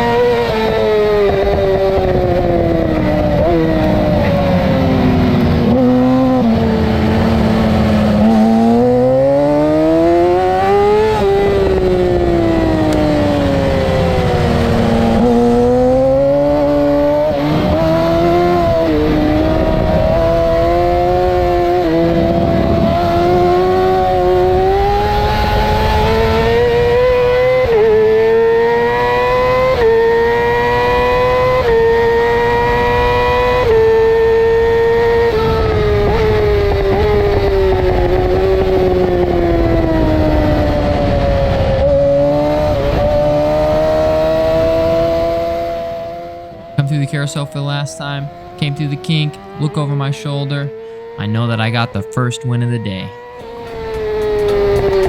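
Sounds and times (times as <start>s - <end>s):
motorcycle engine at racing speed: 0.0s - 52.2s, 52.9s - 55.0s.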